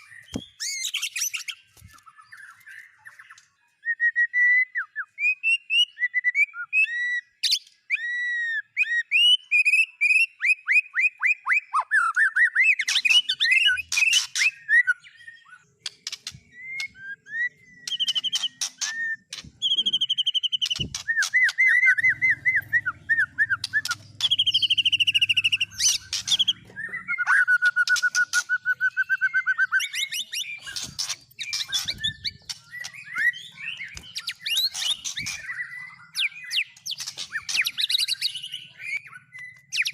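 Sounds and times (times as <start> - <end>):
songbirds singing whistles and trills: 0.0 - 39.9.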